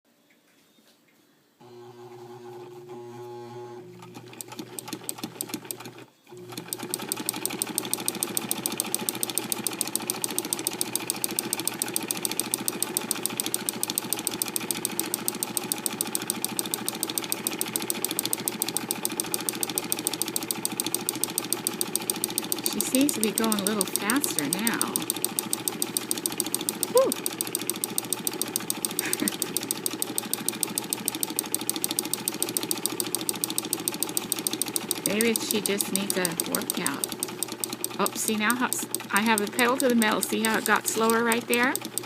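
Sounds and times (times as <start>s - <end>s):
sewing machine stitching: 1.7s - 42.0s.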